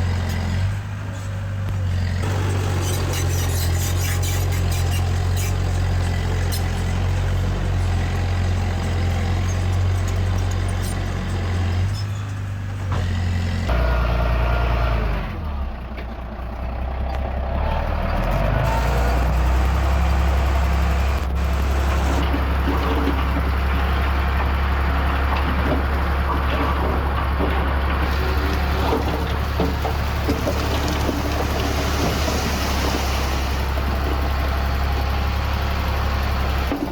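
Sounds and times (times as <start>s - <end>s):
heavy diesel machinery engine drone: 0.0s - 36.9s.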